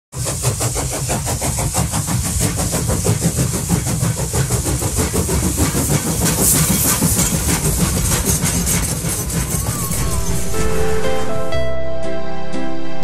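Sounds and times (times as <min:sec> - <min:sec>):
steam locomotive chuffing: 0:00.1 - 0:11.6
steam hissing: 0:00.2 - 0:11.5
train rumble: 0:00.2 - 0:12.0.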